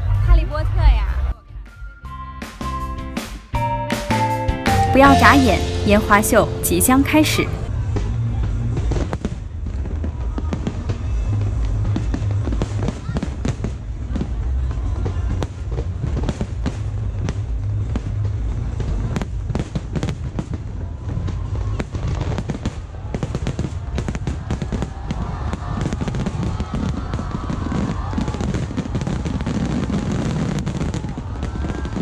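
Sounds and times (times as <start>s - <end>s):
firework crackles and bangs: 4.0s - 32.0s.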